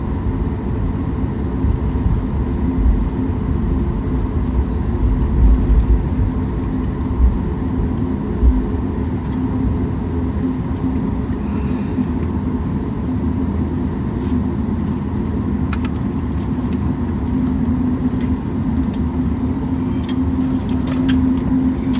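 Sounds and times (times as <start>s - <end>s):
airliner cabin rumble and hum: 0.0s - 21.9s.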